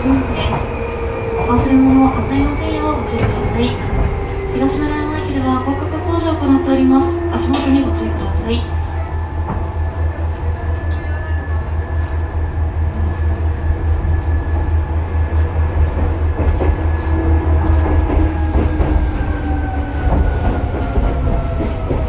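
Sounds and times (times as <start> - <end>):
train rumble with motor whine: 0.0 - 22.0.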